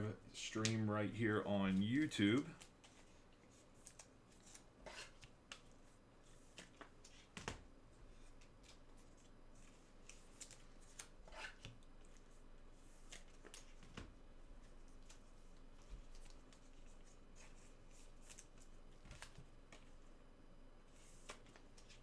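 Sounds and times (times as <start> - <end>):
soft clicks of card handling: 0.5 - 0.9, 1.6 - 12.3, 13.0 - 20.1, 20.9 - 22.0.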